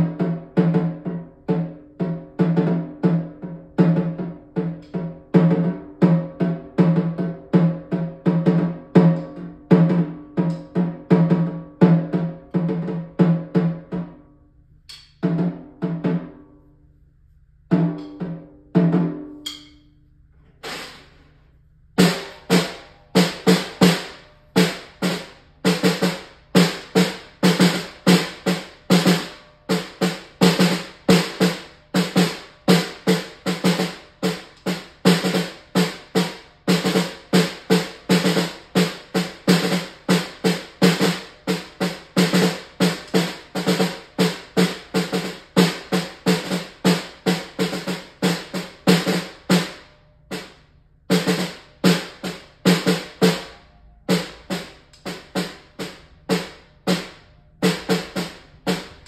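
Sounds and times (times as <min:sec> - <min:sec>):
snare drum played with sticks: 0:00.0 - 0:14.2, 0:14.9 - 0:16.5, 0:17.7 - 0:19.8, 0:20.6 - 0:21.3, 0:22.0 - 0:59.0.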